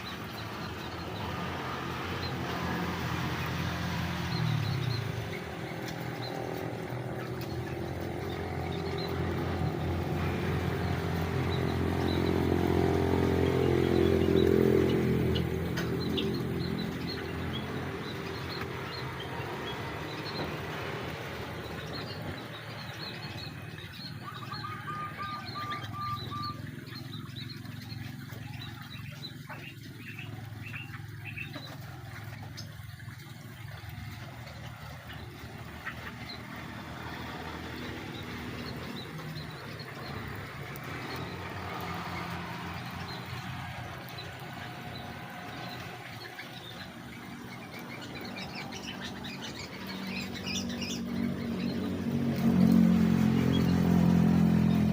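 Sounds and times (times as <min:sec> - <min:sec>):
birds chirping and calling: 0:00.0 - 0:54.9
vehicle engine running: 0:00.0 - 0:54.9.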